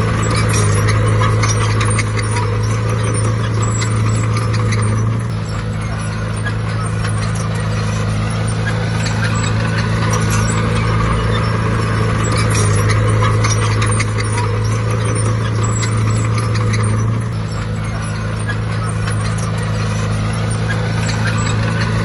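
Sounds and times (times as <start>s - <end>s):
bulldozer diesel engine: 0.0s - 22.0s
rapid clicking and clatter: 0.0s - 22.0s.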